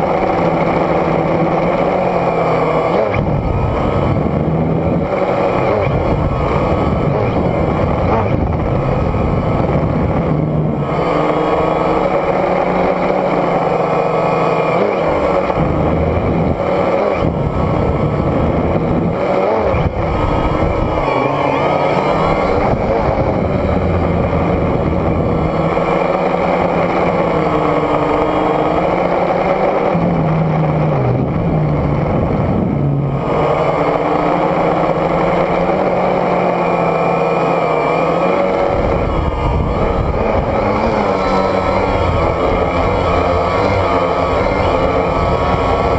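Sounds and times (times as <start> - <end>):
quadcopter rotors buzzing: 0.0 - 45.9.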